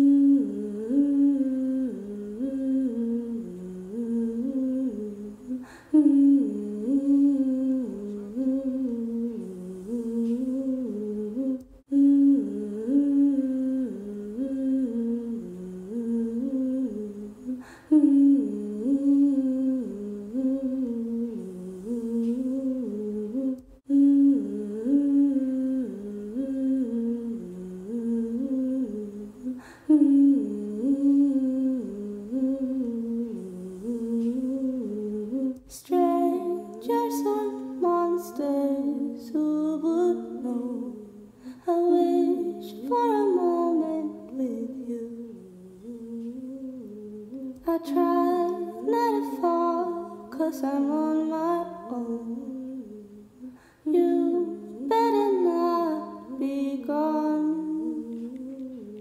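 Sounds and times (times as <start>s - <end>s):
person humming a melody: 0.0s - 59.0s.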